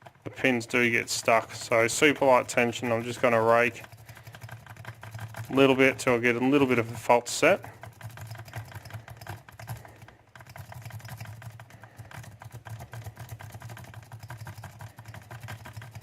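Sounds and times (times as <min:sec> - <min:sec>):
lock pick raking pins: 0:00.7 - 0:16.0.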